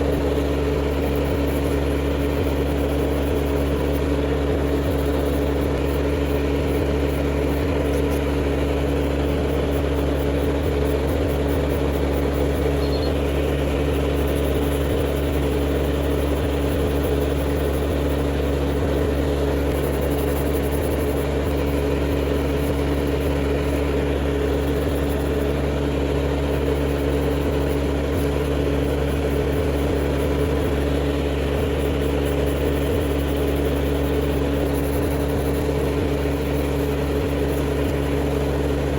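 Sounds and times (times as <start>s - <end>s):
small electric motor humming: 0.0s - 38.9s.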